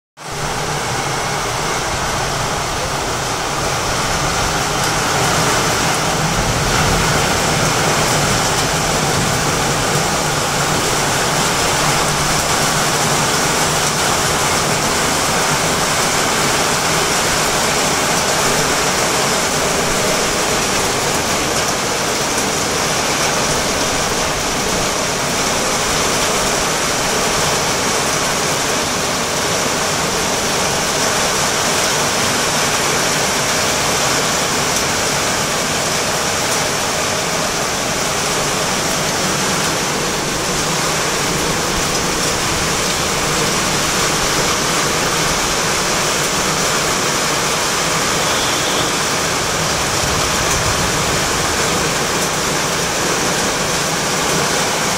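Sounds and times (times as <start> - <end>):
torrential rain: 0.2 - 54.9.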